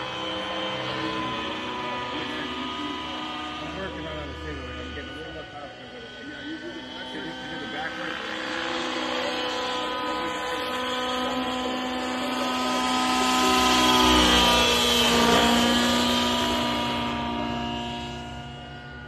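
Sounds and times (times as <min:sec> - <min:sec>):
helicopter rotor noise: 0:00.0 - 0:19.0
model helicopter engine whine: 0:00.0 - 0:19.0.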